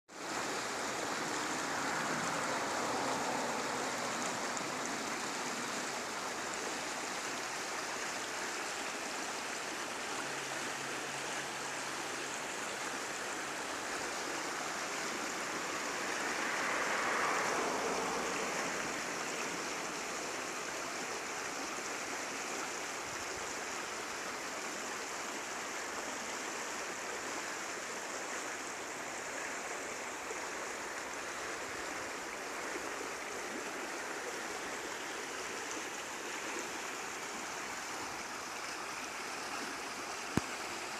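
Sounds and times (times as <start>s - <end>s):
river rushing over stones: 0.1s - 40.9s.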